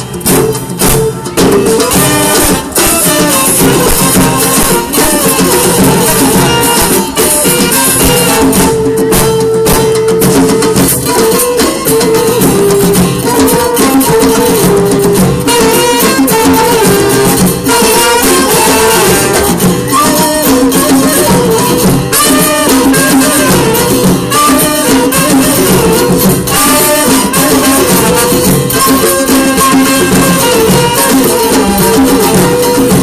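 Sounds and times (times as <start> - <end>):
live folk band playing: 0.0 - 33.0.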